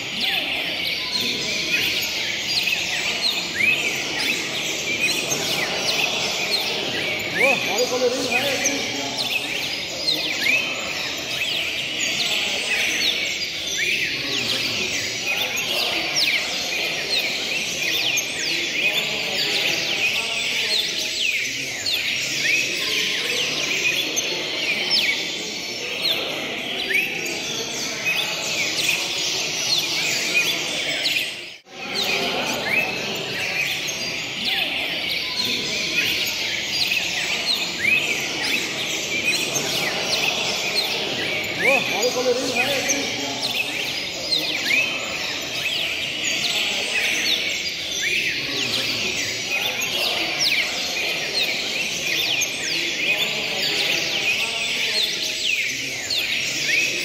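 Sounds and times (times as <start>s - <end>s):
birds singing and chirping: 0.0s - 57.0s
murmur of voices: 0.0s - 57.0s.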